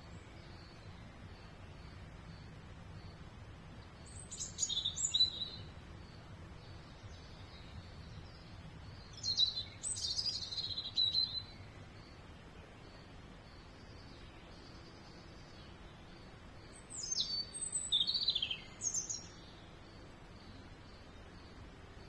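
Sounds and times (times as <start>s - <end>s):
faint low hum: 0.0s - 22.0s
songbird singing: 0.0s - 22.0s.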